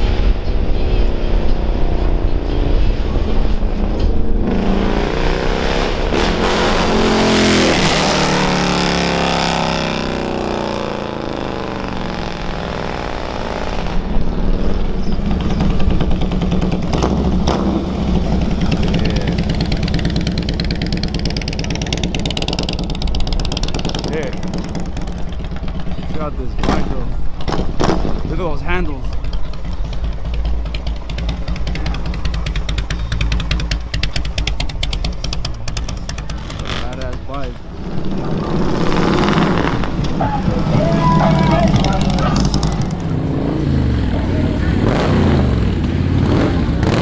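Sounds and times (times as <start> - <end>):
motorcycles riding by: 2.3 - 47.0.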